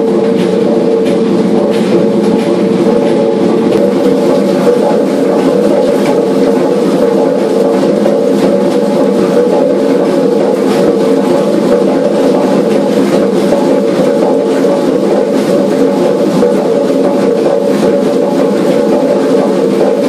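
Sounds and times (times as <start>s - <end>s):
machinery knocks: 0.0s - 20.0s
steam engine running: 0.0s - 20.0s.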